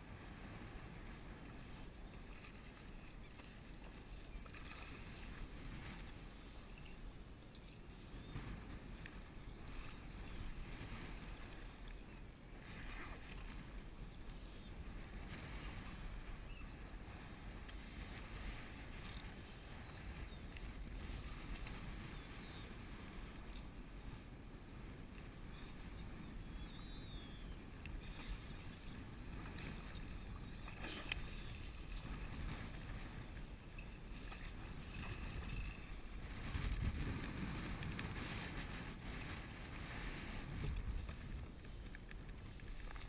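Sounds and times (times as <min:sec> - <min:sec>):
water lapping against kayak hull: 0:01.2 - 0:06.8, 0:07.4 - 0:24.0, 0:25.1 - 0:43.0
wind buffeting microphone: 0:08.0 - 0:43.0.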